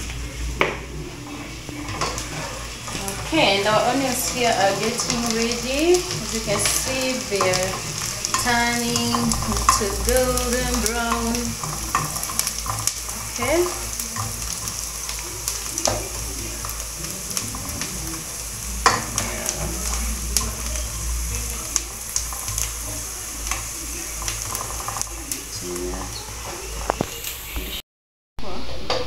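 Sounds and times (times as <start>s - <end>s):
wooden spoon scraping a pan: 0.0s - 27.7s
onions sizzling in a pot: 0.0s - 27.8s.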